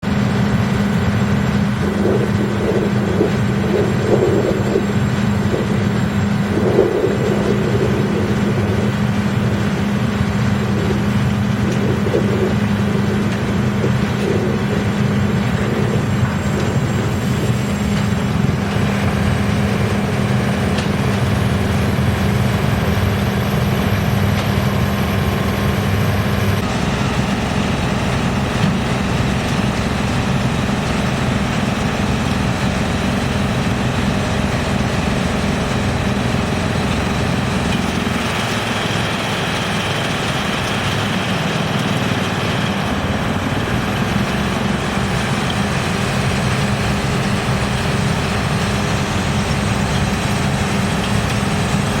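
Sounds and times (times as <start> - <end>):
wood chipper running: 0.0 - 52.0.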